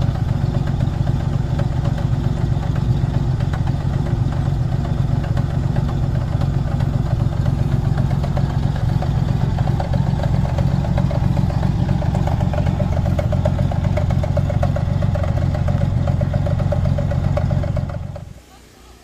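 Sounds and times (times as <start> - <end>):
engine idling with fast ticking: 0.0 - 18.4.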